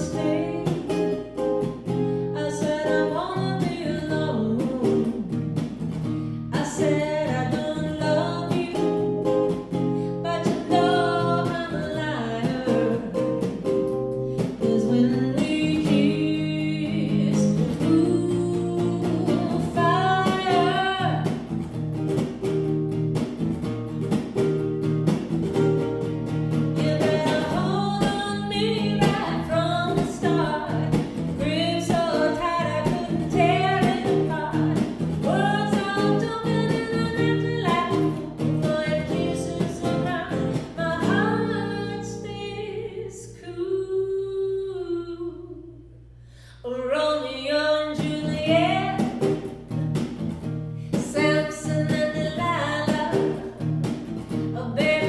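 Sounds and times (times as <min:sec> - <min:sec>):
woman singing into a microphone: 0:00.0 - 0:05.4, 0:06.5 - 0:13.7, 0:14.3 - 0:21.4, 0:26.8 - 0:45.9, 0:46.5 - 0:49.5, 0:50.9 - 0:53.6, 0:54.6 - 0:55.0
guitar playing: 0:00.0 - 0:43.7, 0:48.0 - 0:55.0.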